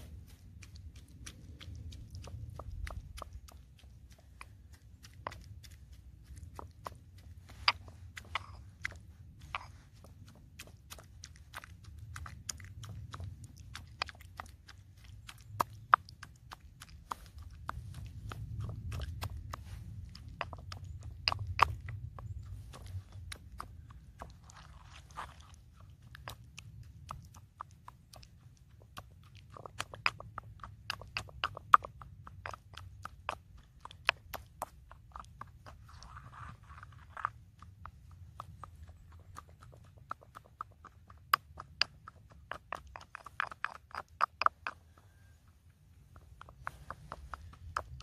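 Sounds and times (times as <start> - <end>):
low steady rumble: 0.0 - 48.0.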